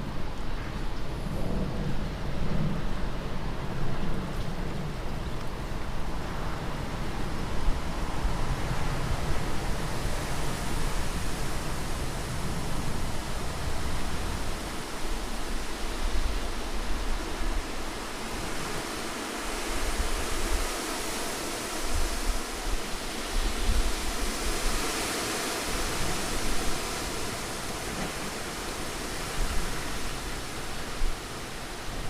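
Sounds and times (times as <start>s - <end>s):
wind blowing in gusts: 0.0s - 32.0s.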